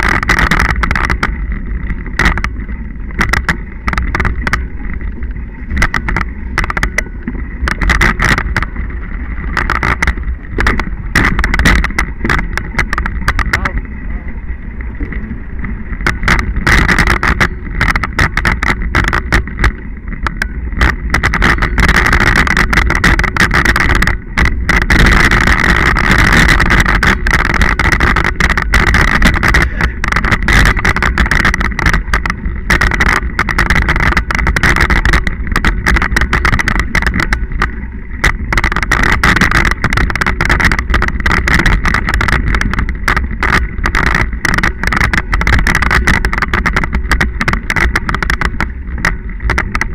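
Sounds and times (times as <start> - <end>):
bike tyres rumbling over gravel: 0.0 - 49.9
clicks and rattles from bumps: 0.0 - 49.9.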